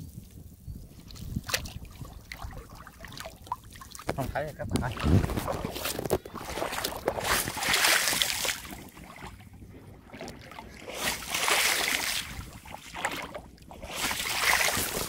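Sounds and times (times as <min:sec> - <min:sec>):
legs splashing through water: 0:01.0 - 0:15.0.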